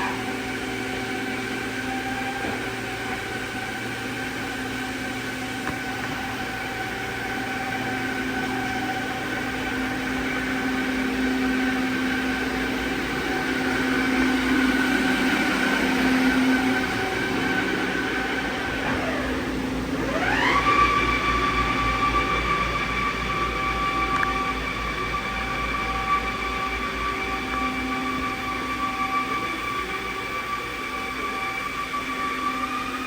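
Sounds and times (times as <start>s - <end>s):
lathe machine hum: 0.0s - 33.0s.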